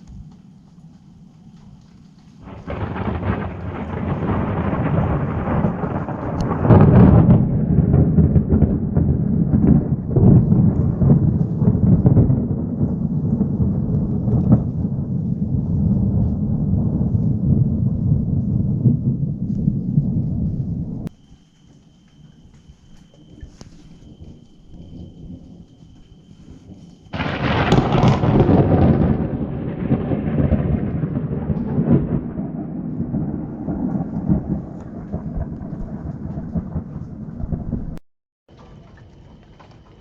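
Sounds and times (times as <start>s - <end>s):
thunder crack and rumble: 2.4s - 21.1s, 23.2s - 40.0s.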